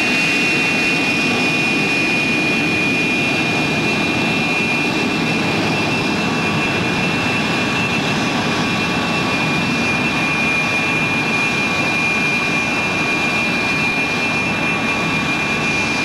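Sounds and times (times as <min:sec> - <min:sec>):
jet engine rumble: 0:00.0 - 0:16.0
jet engines whining: 0:00.0 - 0:16.0.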